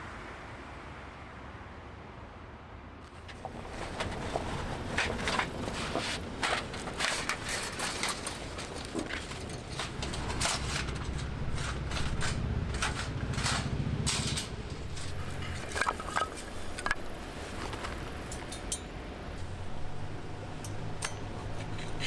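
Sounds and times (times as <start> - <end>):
firewood crackling and popping: 3.1 - 22.0
low steady hum: 3.2 - 22.0.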